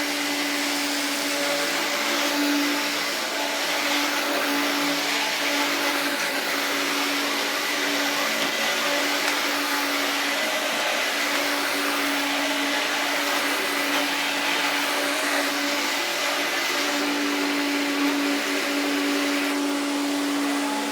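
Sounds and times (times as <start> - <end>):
upright vacuum cleaner running: 0.0 - 20.9.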